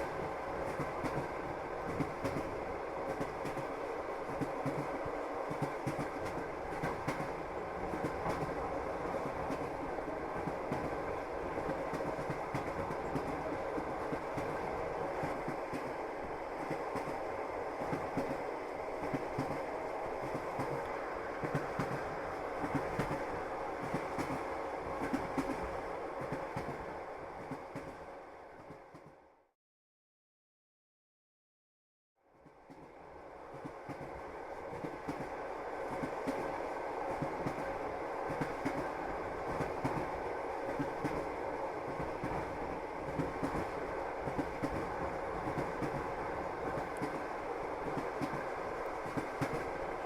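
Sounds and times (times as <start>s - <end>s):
train wheels clattering on rails: 0.0s - 28.0s, 33.5s - 50.0s
train carriage rumble: 0.0s - 29.4s, 32.3s - 50.0s.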